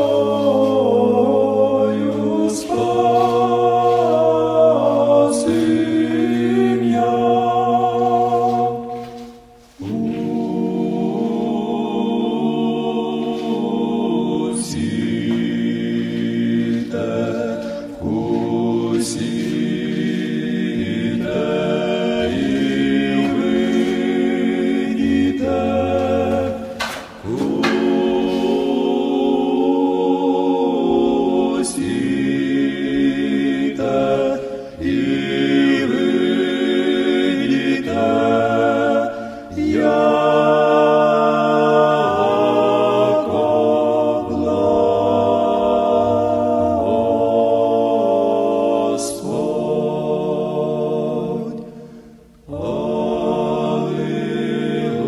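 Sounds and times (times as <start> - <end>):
choir singing chant-like chords: 0.0 - 55.0.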